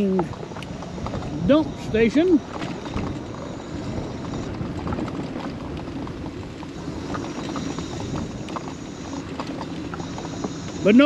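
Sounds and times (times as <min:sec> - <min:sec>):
small ticks: 0:00.0 - 0:11.0
tyres and motor rumbling on road: 0:00.0 - 0:11.0.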